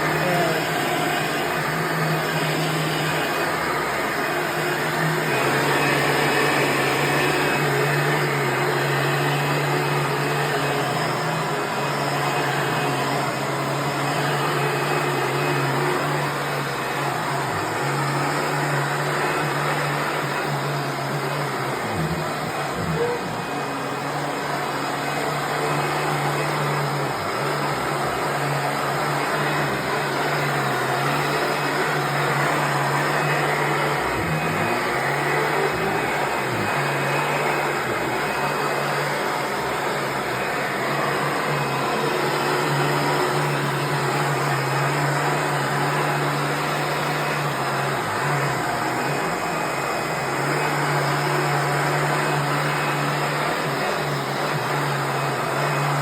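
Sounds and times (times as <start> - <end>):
vacuum cleaner running on rug: 0.0 - 56.0.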